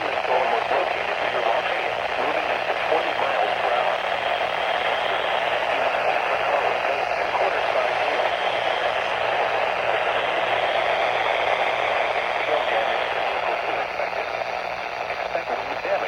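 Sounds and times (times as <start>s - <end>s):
low steady hum: 0.0s - 16.0s
radio static hiss: 0.0s - 16.0s.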